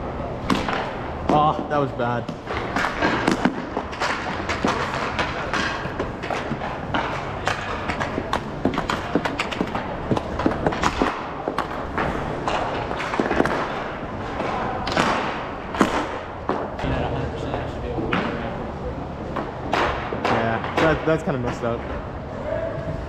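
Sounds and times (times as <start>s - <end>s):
steady background noise: 0.0s - 23.0s
hockey sticks and puck clacks: 0.4s - 18.5s, 19.3s - 22.1s.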